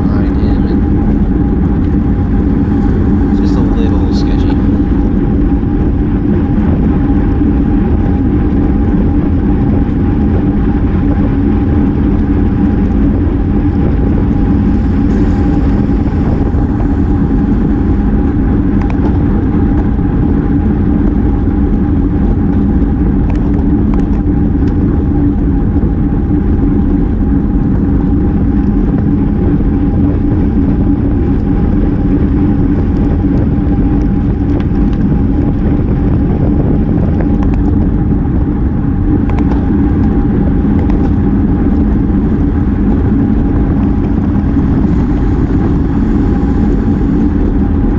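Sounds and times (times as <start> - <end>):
low hum: 0.0 - 47.9
wind and road noise: 0.0 - 47.9.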